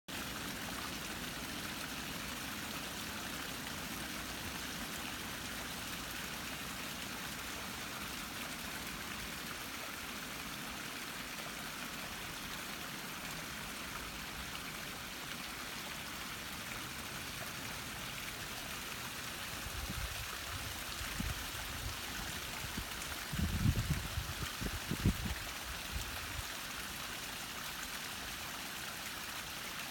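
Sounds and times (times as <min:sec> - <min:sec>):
running water rushing: 0:00.1 - 0:29.9.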